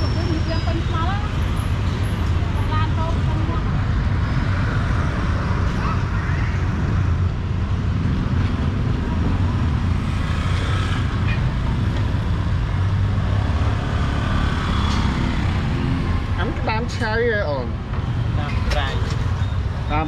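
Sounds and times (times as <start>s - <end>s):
motorbikes and cars passing: 0.0s - 20.0s.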